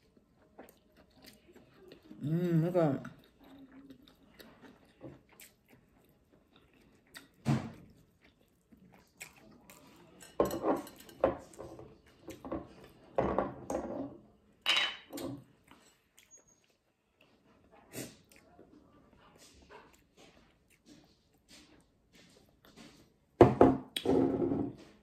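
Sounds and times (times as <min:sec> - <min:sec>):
chewing and mouth sounds: 0:00.0 - 0:13.1, 0:15.4 - 0:23.2.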